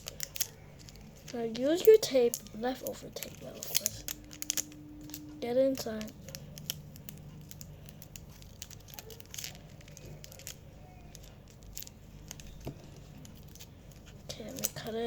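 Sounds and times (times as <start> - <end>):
sticky tape crinkling: 0.0 - 15.0.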